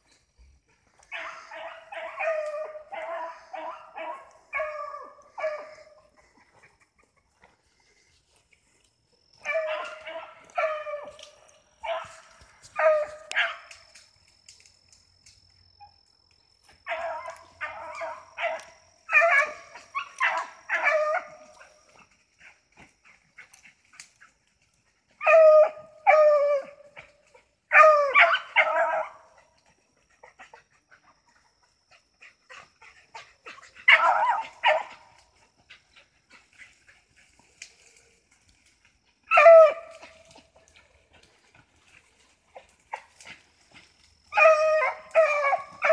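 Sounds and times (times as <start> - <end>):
hounds baying and barking: 0.0 - 14.2, 15.3 - 45.9.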